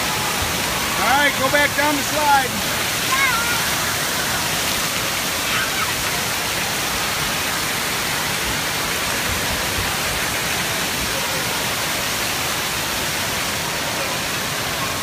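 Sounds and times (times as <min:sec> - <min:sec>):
water spraying and pouring: 0:00.0 - 0:15.0.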